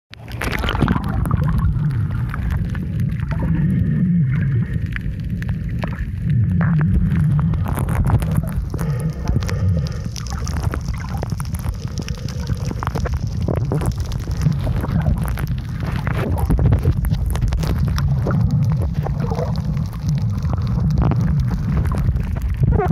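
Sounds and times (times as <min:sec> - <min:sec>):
crackling clicks: 0:00.1 - 0:22.9
underwater rumble of moving water: 0:00.1 - 0:22.9.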